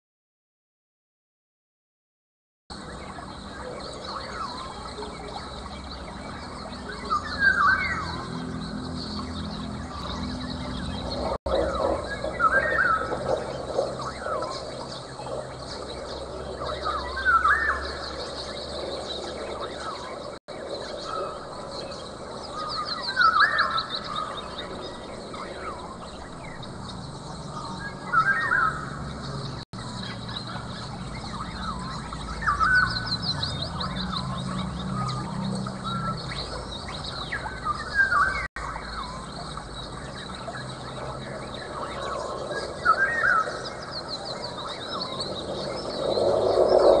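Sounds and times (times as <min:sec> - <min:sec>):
birds calling: 0:02.7 - 0:47.0
high bird trill: 0:02.7 - 0:47.0
low steady hum: 0:02.7 - 0:47.0.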